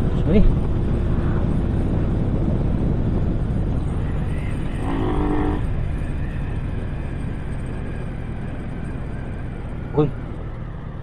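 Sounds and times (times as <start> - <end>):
motorcycle engine: 0.0 - 11.0
wind rumble: 0.0 - 11.0.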